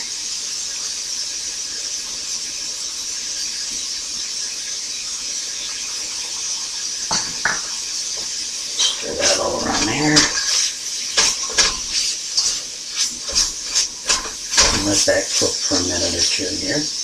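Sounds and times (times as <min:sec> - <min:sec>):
meat and vegetables sizzling in skillet: 0:00.0 - 0:17.0.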